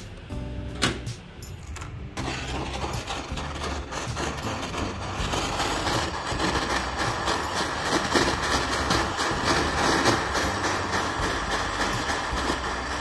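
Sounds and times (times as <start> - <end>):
gas torch flame hissing: 2.2 - 13.0.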